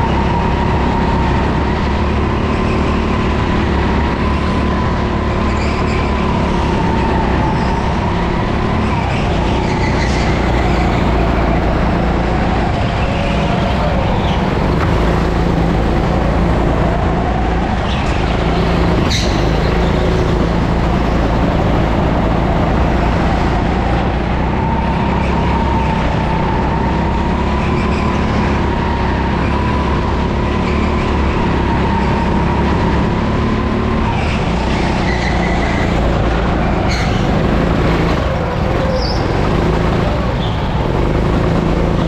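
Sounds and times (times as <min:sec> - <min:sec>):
go-kart motor whine and rumble: 0:00.0 - 0:42.0.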